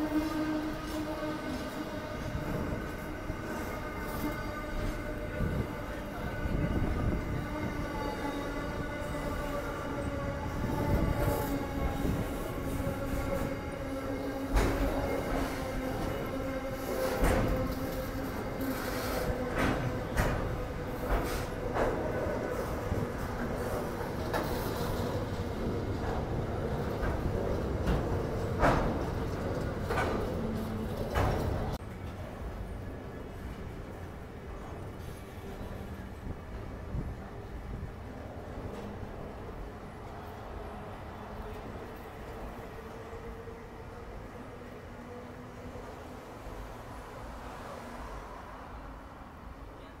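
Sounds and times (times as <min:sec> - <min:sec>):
freight train wheels on track: 0:00.0 - 0:49.9.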